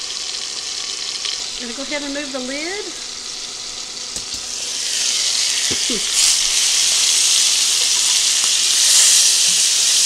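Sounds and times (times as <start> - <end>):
pork chops sizzling in a skillet: 0.0 - 10.0.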